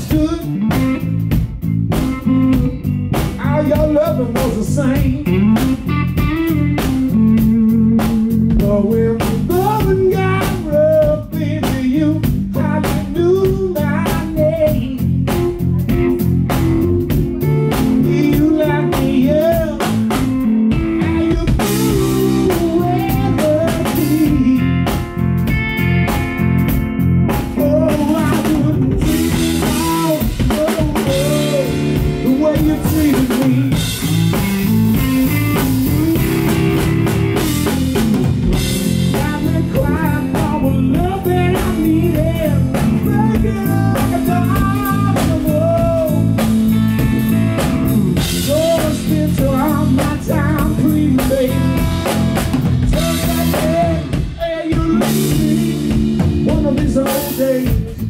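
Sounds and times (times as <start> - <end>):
drum kit: 0.0 - 58.0
electric guitar lead: 0.0 - 58.0.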